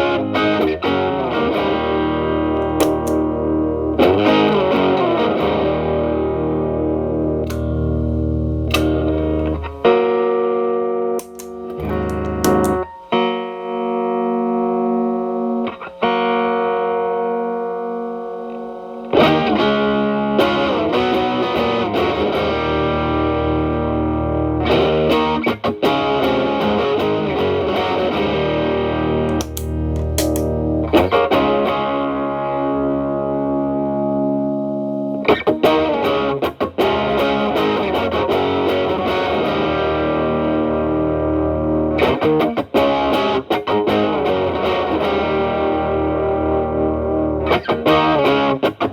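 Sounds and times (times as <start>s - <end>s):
distorted electric guitar chords: 0.0s - 48.9s.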